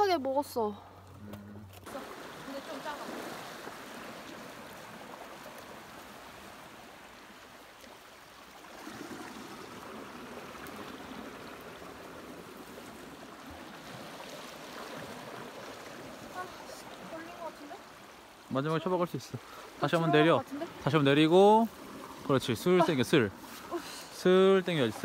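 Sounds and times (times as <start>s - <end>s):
sea water washing on shore: 1.8s - 25.0s.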